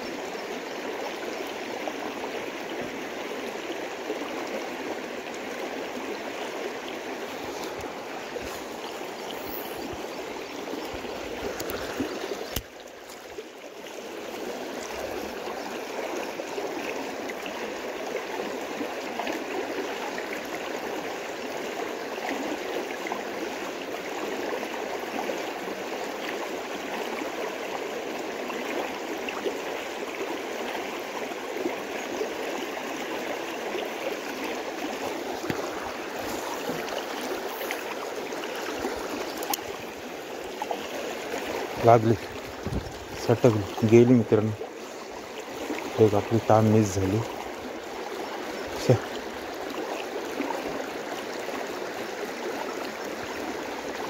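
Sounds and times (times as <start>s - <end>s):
creek water flowing over rocks: 0.0s - 54.0s.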